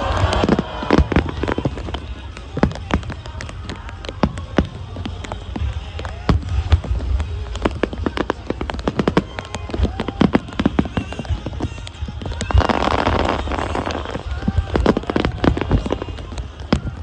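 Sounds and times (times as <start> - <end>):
deep fireworks booms: 0.0 - 17.0
fireworks cracks and bangs: 0.0 - 17.0.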